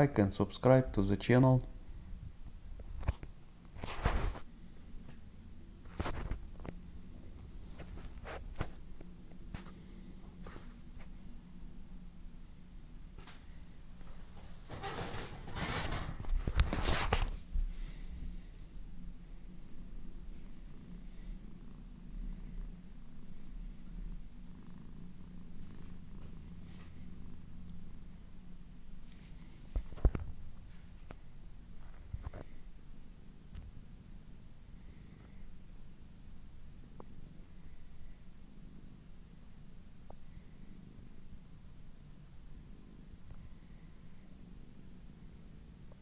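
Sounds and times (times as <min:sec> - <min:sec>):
cat purring: 0:03.4 - 0:15.4, 0:17.3 - 0:46.0.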